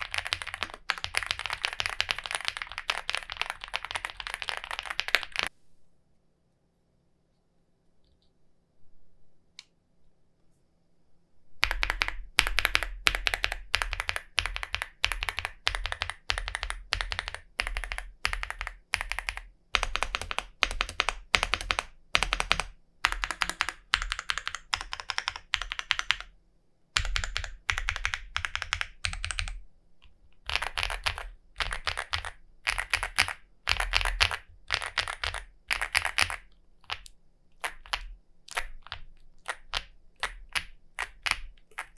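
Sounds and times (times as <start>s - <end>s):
mechanical keyboard typing: 0.0s - 5.5s, 11.6s - 26.3s, 27.0s - 29.6s, 30.4s - 41.9s.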